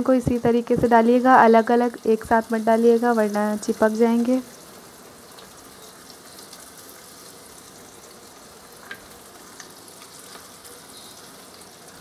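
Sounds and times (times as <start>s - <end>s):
meat deep-frying in oil: 0.0s - 12.0s.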